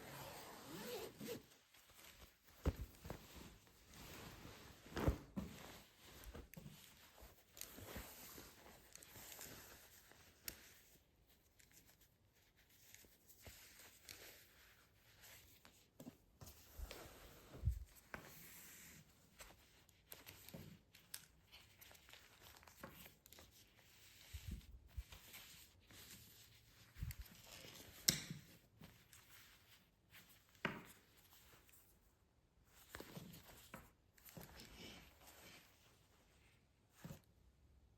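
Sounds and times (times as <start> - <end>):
rustling and handling noises: 0.0 - 37.9.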